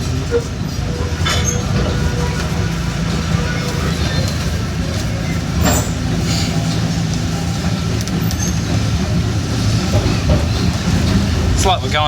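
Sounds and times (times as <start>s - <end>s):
train engine drone: 0.0s - 12.0s.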